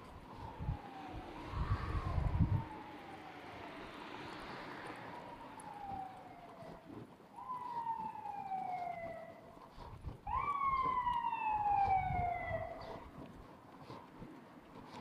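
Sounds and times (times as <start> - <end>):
emergency siren wailing: 0.0 - 15.0.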